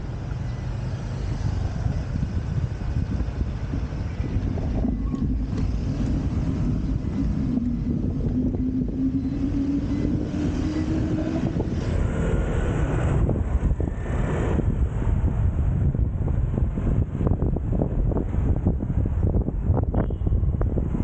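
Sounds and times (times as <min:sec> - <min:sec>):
passing vehicle engine droning: 0:00.0 - 0:19.5
street traffic: 0:00.0 - 0:21.0
wind rumbling on microphone: 0:00.0 - 0:21.0.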